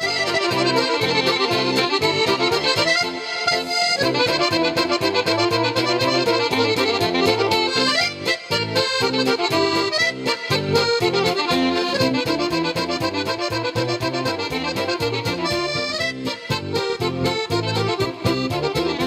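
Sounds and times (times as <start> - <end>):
accordion playing lively tune: 0.0 - 19.0
bass: 0.0 - 19.0
steady beat: 0.0 - 19.0.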